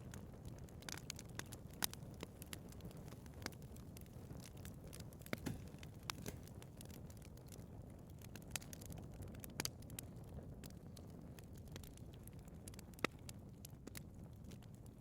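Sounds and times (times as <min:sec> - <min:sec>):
burning wood crackling and popping: 0:00.0 - 0:15.0
flames rumbling: 0:00.0 - 0:15.0.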